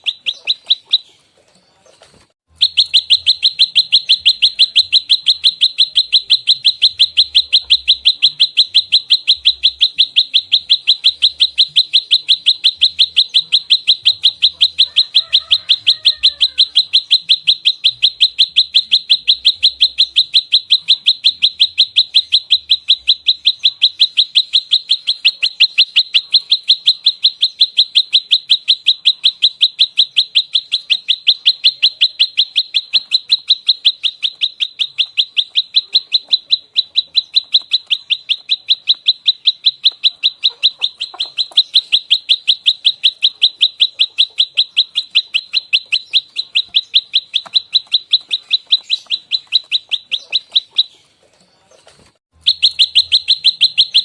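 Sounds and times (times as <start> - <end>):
songbird rapid high chip notes: 2.5 - 51.1, 52.3 - 54.0.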